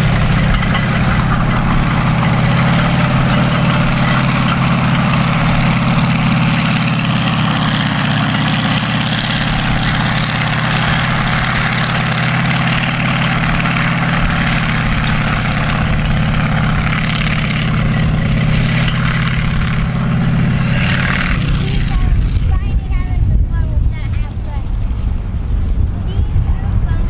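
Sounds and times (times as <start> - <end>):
broad rushing noise: 0.0 - 27.0
tank engine running: 0.0 - 27.0.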